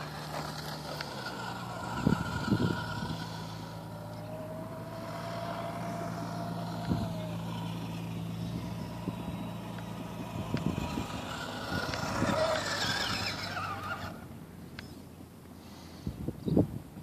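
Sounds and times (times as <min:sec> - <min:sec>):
small atv engine running: 0:00.0 - 0:16.6.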